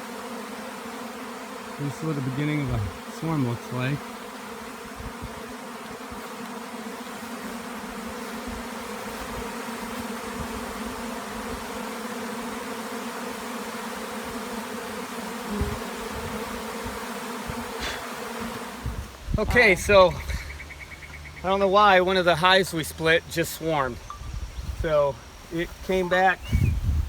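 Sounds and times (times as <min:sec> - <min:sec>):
bees humming in flight: 0:00.0 - 0:19.3, 0:20.1 - 0:23.4.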